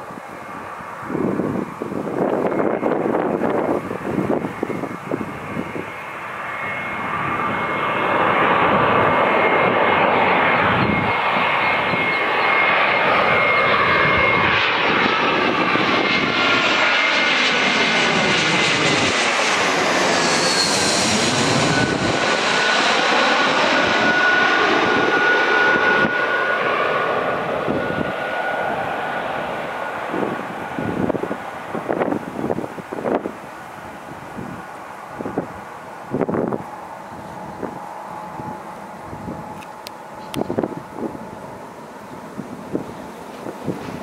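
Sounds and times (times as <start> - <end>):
jet airliner passing overhead: 0.0 - 44.0.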